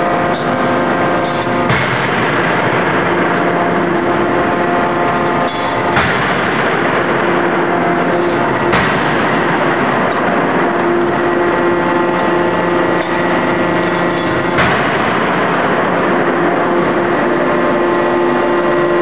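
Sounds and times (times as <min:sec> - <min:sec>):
forging hammer blow: 0:00.0 - 0:19.0
machine hum: 0:00.0 - 0:19.0.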